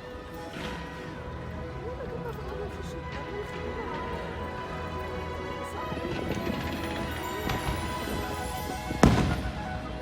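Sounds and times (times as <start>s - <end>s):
music playing: 0.0s - 10.0s.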